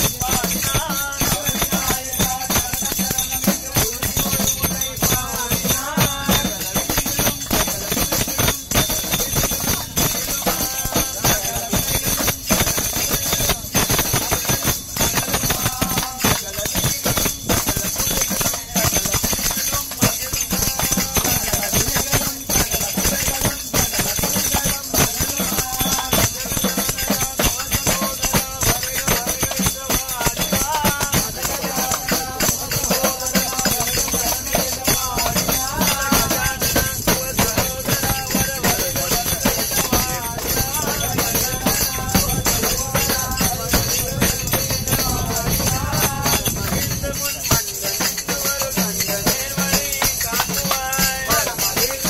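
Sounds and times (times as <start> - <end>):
group singing devotional song: 0.0 - 52.0
jingling rattling percussion: 0.0 - 52.0.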